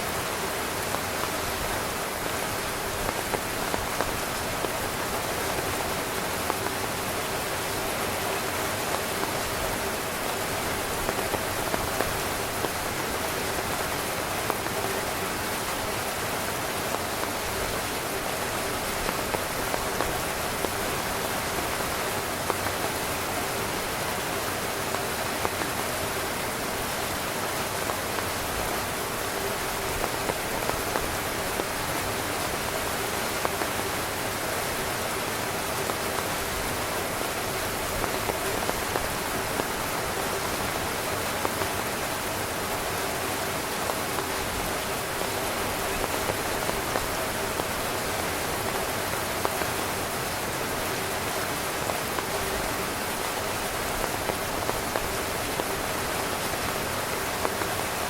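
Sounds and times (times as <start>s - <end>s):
heavy rain drumming on a tent: 0.0s - 58.0s.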